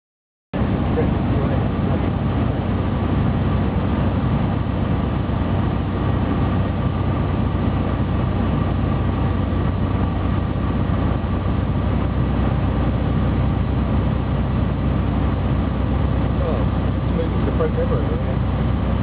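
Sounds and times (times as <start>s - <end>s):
aircraft engine and propeller droning: 0.6s - 19.0s.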